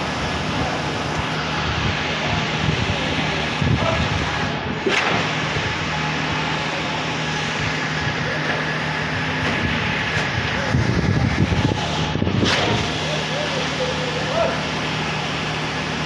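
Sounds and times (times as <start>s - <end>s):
diesel engine running: 0.0s - 16.0s
machinery noise: 0.0s - 16.0s.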